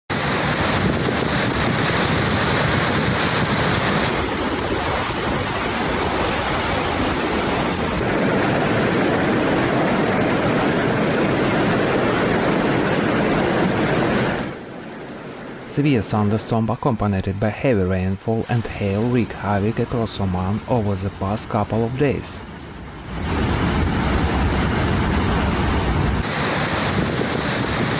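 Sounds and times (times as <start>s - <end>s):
floodwater rushing: 0.1s - 27.9s
wind on microphone: 0.1s - 27.9s.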